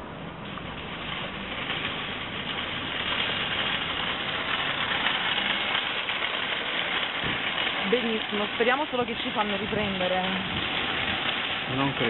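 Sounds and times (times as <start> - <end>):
shopping trolley rattling on asphalt: 0.2 - 12.0.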